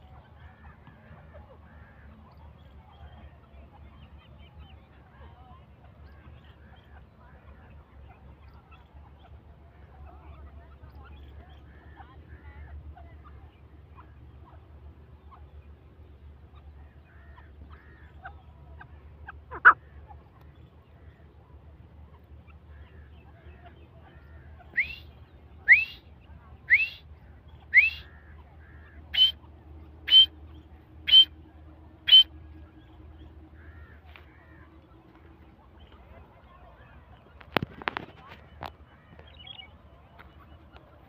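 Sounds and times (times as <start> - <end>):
bird calling: 0.0 - 41.0.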